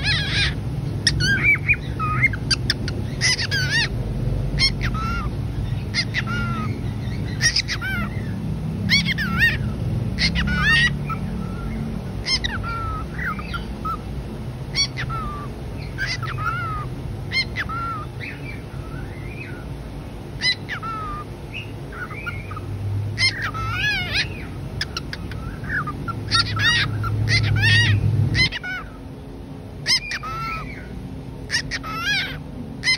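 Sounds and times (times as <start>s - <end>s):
cockatiels whistled calls: 0.0s - 3.9s, 4.6s - 14.0s, 14.7s - 19.6s, 20.4s - 22.6s, 23.2s - 29.0s, 29.8s - 30.9s, 31.5s - 32.9s.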